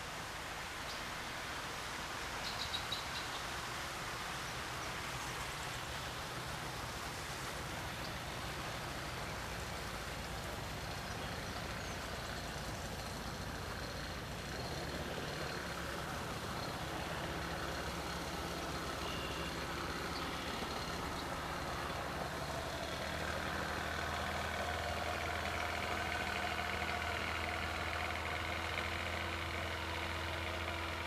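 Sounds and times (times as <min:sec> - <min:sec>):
engine running: 0:03.4 - 0:31.0.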